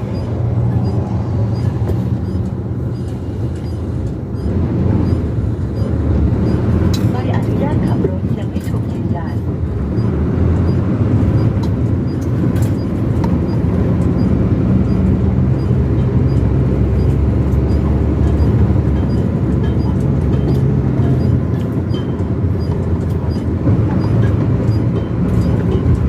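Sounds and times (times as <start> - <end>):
tyre noise on highway: 0.0 - 8.2, 9.3 - 26.0
vehicle engine drone: 0.0 - 26.0.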